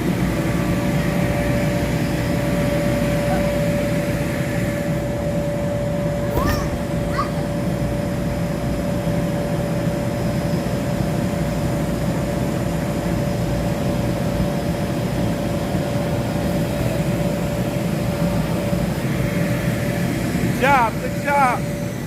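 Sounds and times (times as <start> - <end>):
air blowers droning: 0.0 - 22.0.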